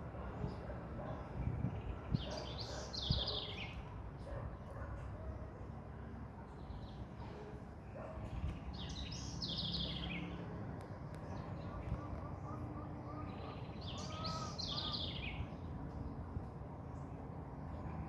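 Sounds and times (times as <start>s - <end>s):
wild birds singing: 0.0s - 4.8s, 6.5s - 16.2s.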